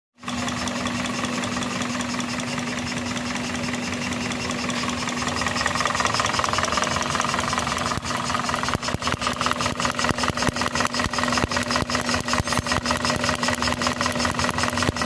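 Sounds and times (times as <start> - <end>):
car engine idling with ticking: 0.2 - 15.0.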